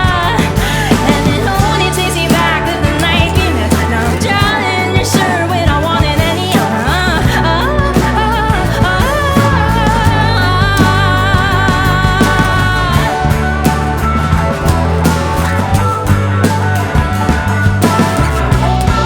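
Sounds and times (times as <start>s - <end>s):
bass guitar: 0.0s - 19.0s
drums: 0.0s - 19.0s.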